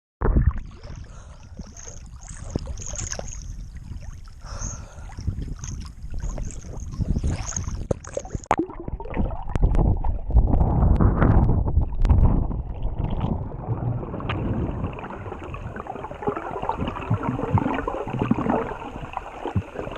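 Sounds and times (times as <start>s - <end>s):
water splashing along boat hull: 0.6s - 19.9s
wind buffeting microphone: 2.3s - 8.4s, 9.1s - 19.8s.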